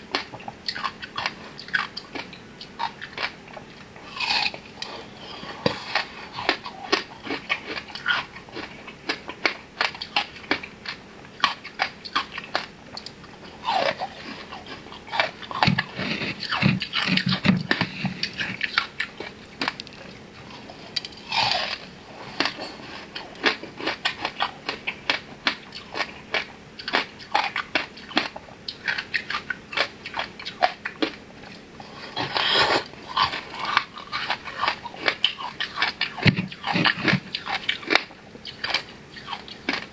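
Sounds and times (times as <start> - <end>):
person chewing soft cakes: 0.0 - 39.9.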